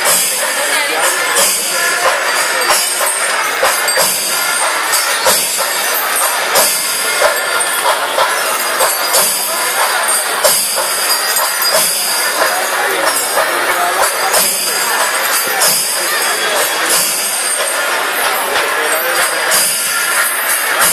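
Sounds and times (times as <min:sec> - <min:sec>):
cymbals clashing: 0:00.0 - 0:20.9
drums in a dense rhythm: 0:00.0 - 0:20.9.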